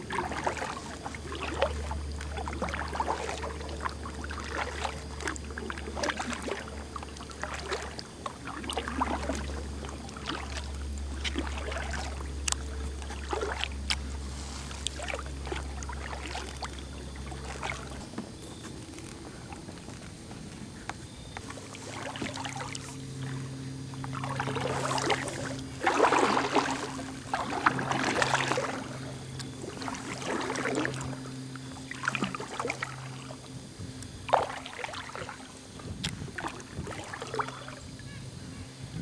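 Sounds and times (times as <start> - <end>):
steady low rumble: 0.0 - 39.0
water splashing around kayak paddle: 0.0 - 39.0.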